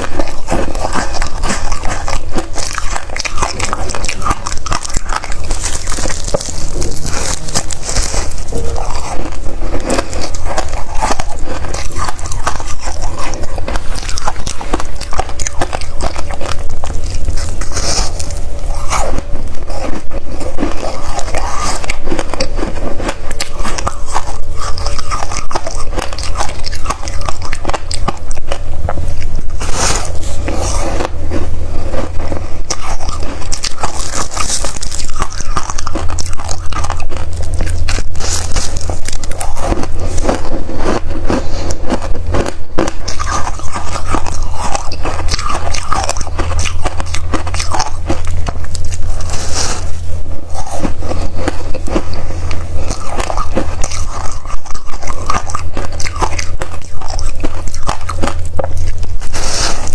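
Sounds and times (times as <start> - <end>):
frost being chewed crunching: 0.0 - 59.9.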